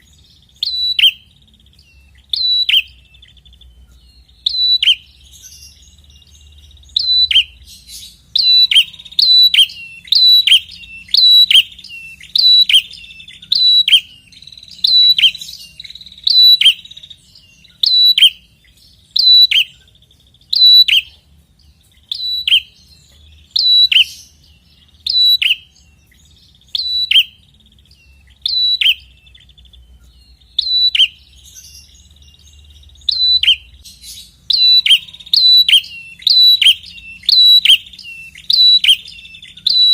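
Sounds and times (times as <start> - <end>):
songbird two-part call: 0.0 - 21.2, 21.9 - 39.9.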